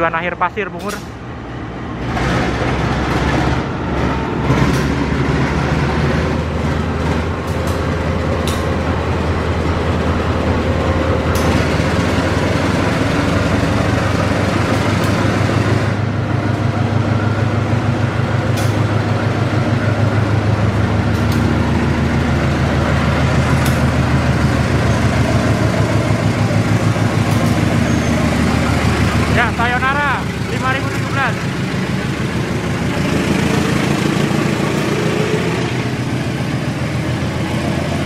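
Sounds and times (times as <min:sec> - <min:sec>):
locomotive diesel engine droning: 0:00.0 - 0:38.0.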